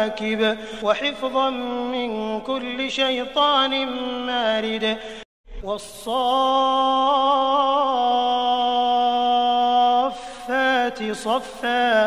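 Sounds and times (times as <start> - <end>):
man chanting: 0.0 - 5.0, 5.6 - 12.0.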